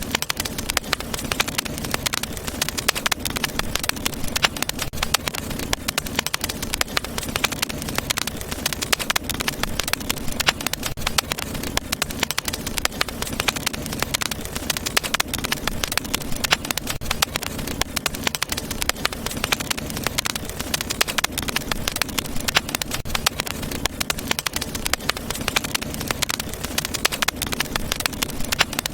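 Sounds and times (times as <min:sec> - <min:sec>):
low rumble of flame: 0:00.0 - 0:28.9
wood fire crackling and popping: 0:00.0 - 0:28.9.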